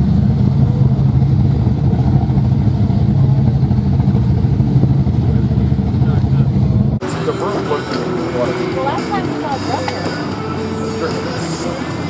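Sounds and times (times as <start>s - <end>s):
powerboat engines idling: 0.0s - 12.0s.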